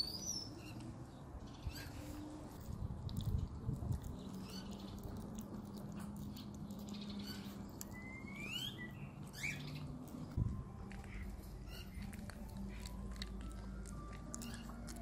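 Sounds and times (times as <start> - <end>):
bird chirping: 0.0 - 2.3, 4.2 - 10.4, 11.0 - 15.0.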